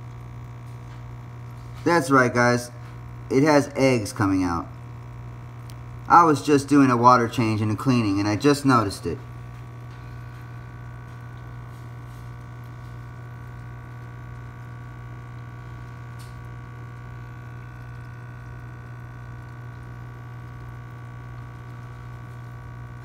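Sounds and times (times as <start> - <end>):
aquarium filter pump humming: 0.0 - 23.0
water trickling: 0.0 - 23.0.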